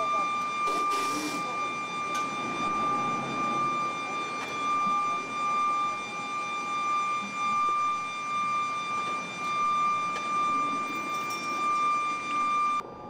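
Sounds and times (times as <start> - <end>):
high-pitched mechanical whine: 0.0 - 13.0.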